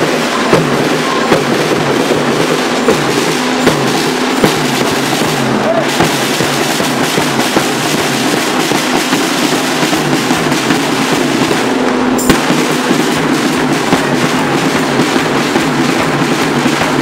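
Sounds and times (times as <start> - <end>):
drum band beating rapidly: 0.0 - 17.0.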